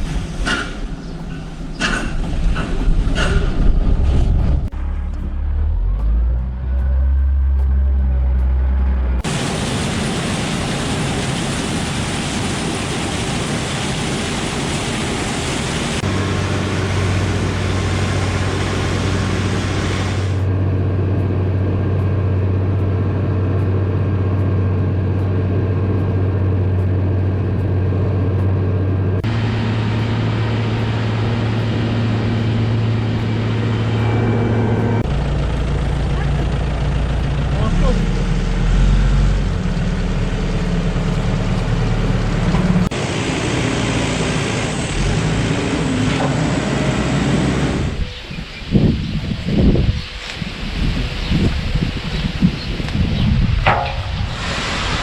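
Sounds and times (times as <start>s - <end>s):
combine harvester running: 0.0s - 51.7s, 53.5s - 55.0s.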